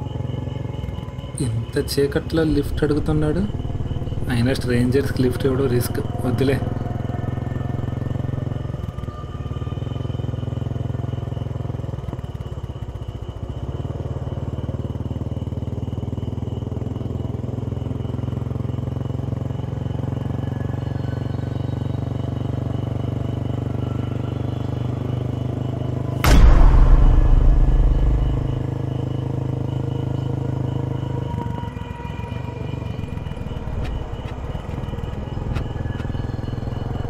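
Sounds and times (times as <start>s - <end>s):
motorcycle engine running: 2.6s - 37.0s.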